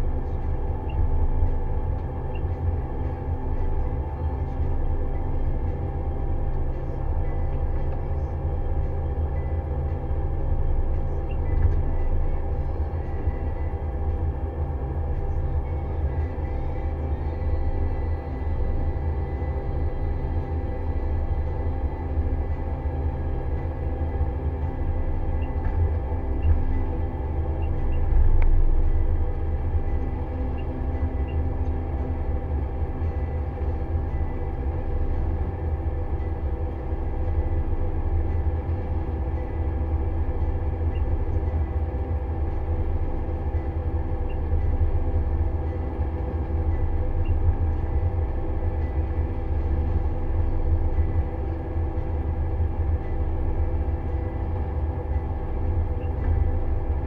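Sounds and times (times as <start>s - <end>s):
steady multi-tone hum: 0.0s - 57.0s.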